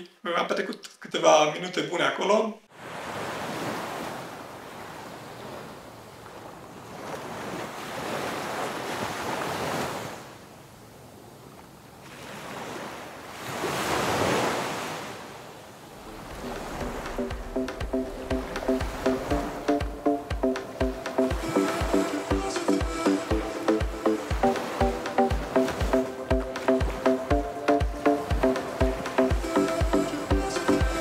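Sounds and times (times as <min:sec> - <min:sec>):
sea waves breaking on shore: 0:02.7 - 0:31.0.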